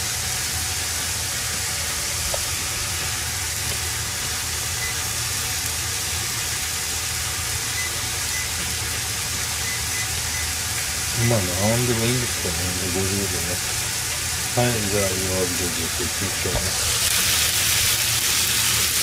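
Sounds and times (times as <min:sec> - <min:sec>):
cooking hiss: 0:00.0 - 0:19.0.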